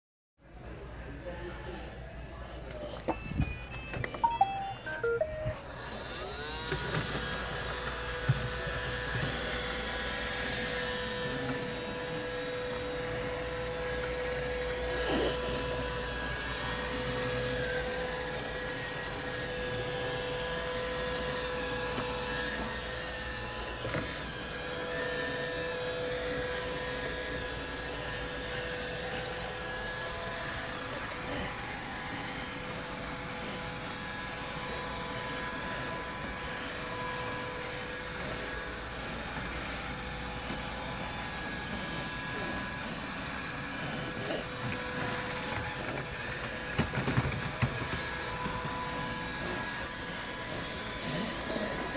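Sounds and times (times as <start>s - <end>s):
robot vacuum motor whine: 2.6s - 51.9s.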